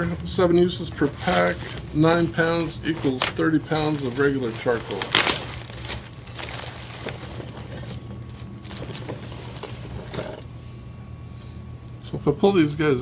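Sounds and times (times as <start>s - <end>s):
packaging rustling: 0.0s - 10.5s
steady low hum: 0.0s - 13.0s.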